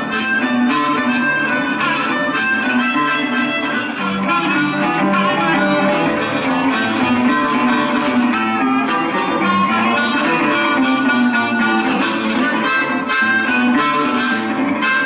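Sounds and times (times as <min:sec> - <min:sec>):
blues harmonica: 0:00.0 - 0:15.0.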